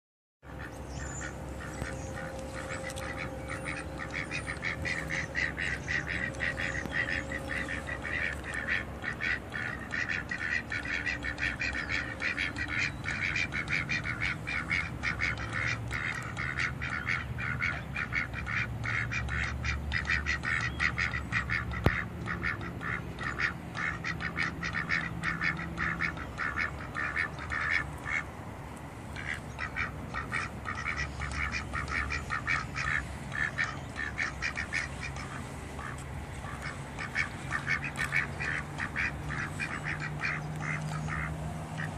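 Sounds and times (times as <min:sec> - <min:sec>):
ducks quacking: 0:00.4 - 0:28.3, 0:29.1 - 0:41.9.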